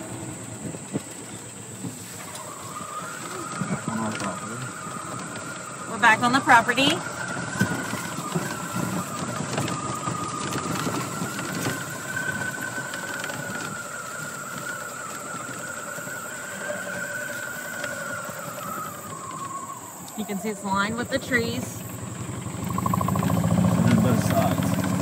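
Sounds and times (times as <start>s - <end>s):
rumble of vehicle on dirt track: 0.0s - 25.0s
vehicle motor whine: 0.0s - 25.0s.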